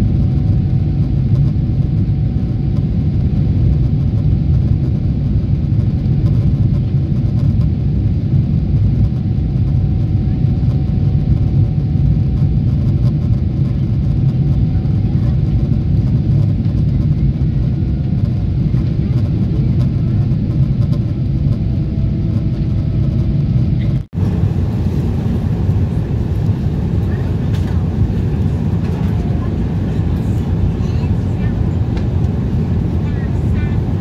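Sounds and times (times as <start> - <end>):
aircraft cabin engine rumble: 0.0 - 34.0.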